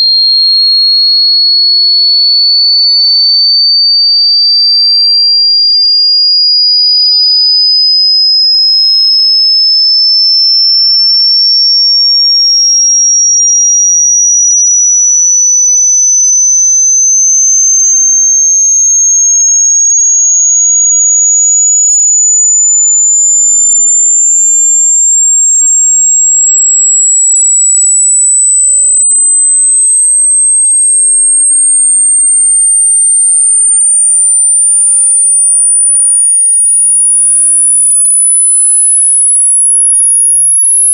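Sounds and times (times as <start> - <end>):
rising sine tone sweep: 0.0 - 40.9.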